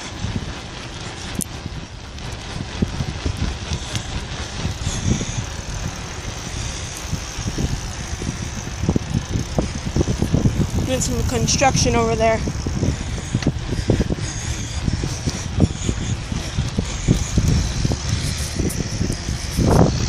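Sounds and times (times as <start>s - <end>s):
traffic passing on fast road: 0.0s - 20.0s
wind rumble on microphone: 0.0s - 20.0s.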